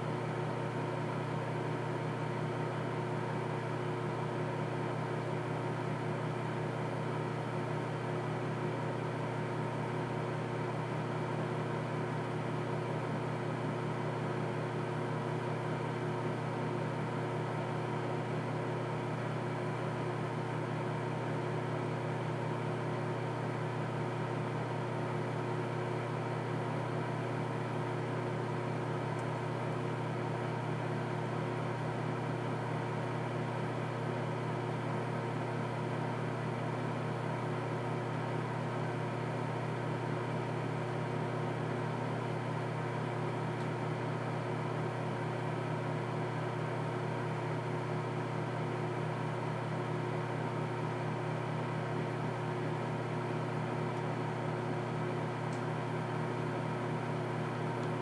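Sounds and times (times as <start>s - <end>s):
microwave oven humming: 0.0s - 58.0s.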